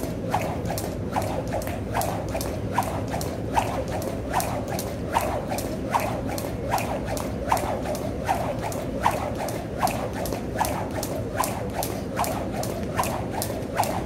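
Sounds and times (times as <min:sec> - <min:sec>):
jump rope ticking on floor: 0:00.0 - 0:14.0.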